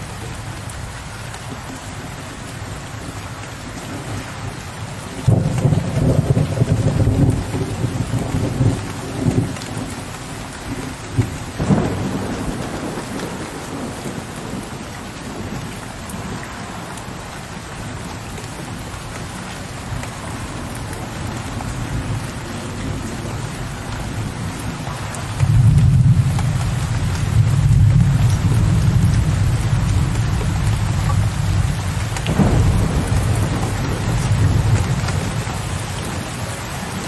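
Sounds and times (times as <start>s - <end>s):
steady rain: 0.0s - 37.0s
thunder rumbling: 5.1s - 17.3s, 19.6s - 37.0s.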